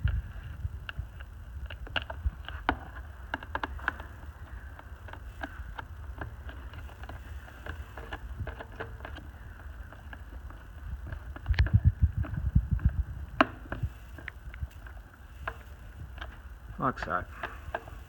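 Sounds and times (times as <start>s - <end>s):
low rumble: 0.0s - 2.5s, 5.9s - 18.0s.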